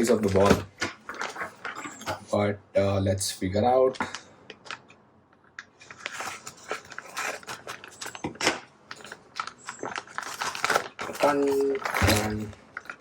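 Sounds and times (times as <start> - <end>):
plastic packaging crinkling: 0.0 - 2.2, 3.9 - 5.0, 5.6 - 13.0.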